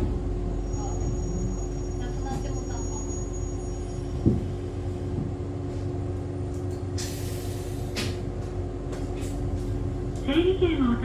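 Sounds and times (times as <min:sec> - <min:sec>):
railcar equipment hum: 0:00.0 - 0:11.0.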